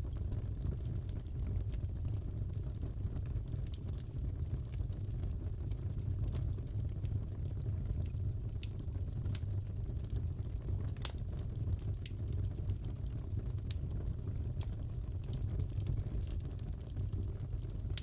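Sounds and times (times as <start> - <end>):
fire burning rumble: 0.0 - 18.0
fire pops and crackles: 0.0 - 18.0.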